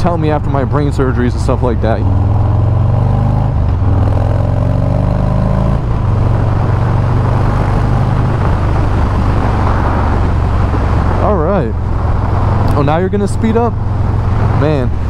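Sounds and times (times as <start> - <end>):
motorcycle engine running: 0.0 - 15.0
road noise: 0.0 - 15.0
wind noise: 0.0 - 15.0.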